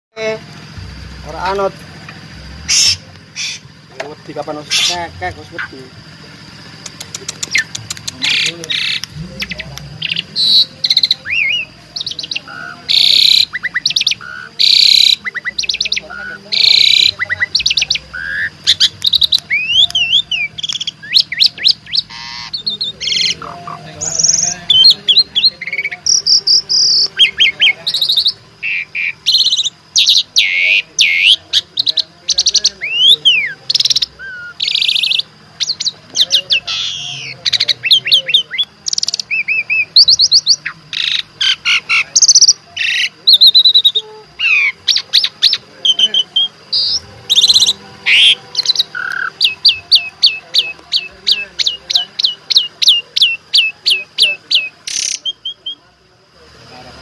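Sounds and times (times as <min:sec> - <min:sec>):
starling singing: 0:00.1 - 0:57.0.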